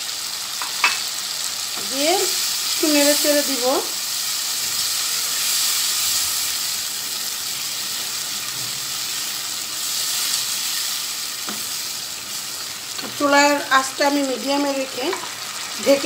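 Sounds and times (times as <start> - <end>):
vegetables sizzling in frying pan: 0.0 - 16.0.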